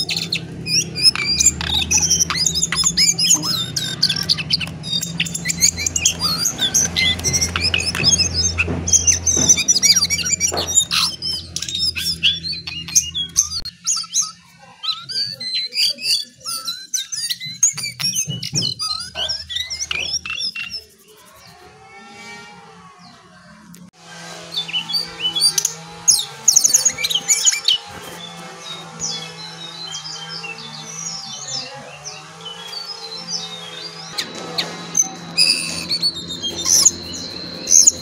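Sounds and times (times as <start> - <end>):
caged bird chirping and trilling: 0.0 - 38.0.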